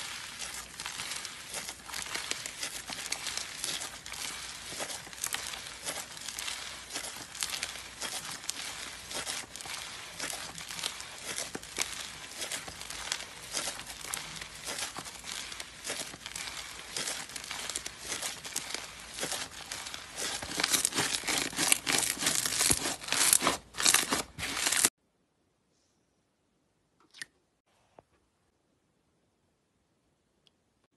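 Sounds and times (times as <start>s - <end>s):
slime crackling and tearing: 0.0s - 24.9s.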